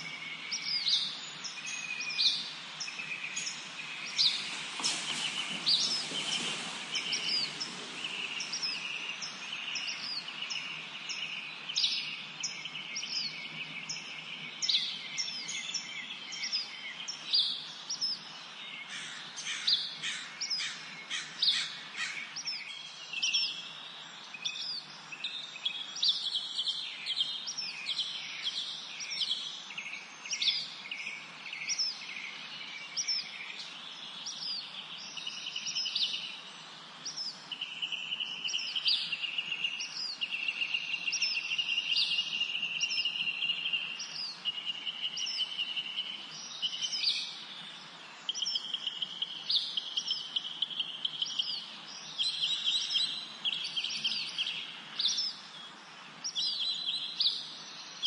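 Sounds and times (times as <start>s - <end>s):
birds chirping: 0.0s - 58.0s
faint background hiss: 0.0s - 58.0s.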